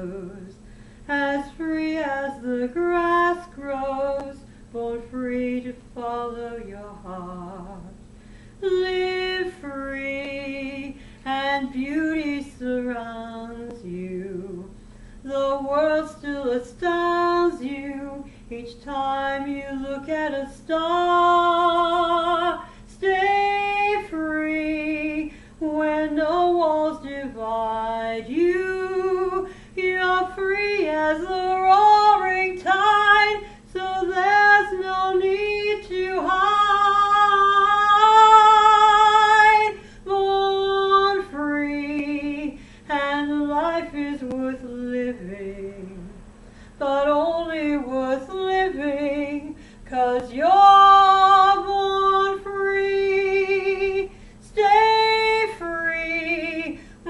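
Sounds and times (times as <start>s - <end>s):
woman singing unaccompanied: 0.0s - 46.2s, 46.8s - 57.0s.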